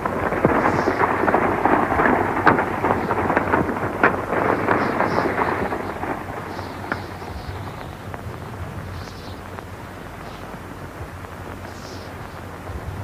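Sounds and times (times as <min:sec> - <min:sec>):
horses galloping: 0:00.0 - 0:13.0.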